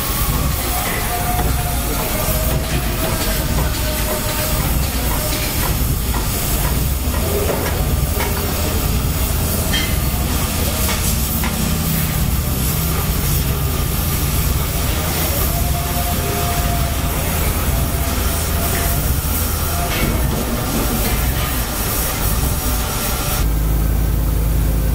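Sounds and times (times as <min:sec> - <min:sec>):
cutting torch flame hissing: 0:00.0 - 0:23.5.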